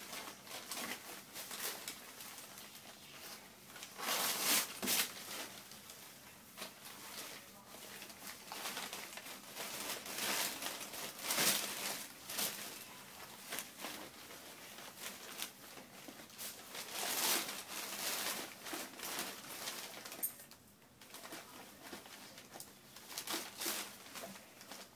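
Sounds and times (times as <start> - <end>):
wrapping paper rustling: 0.0 - 24.9.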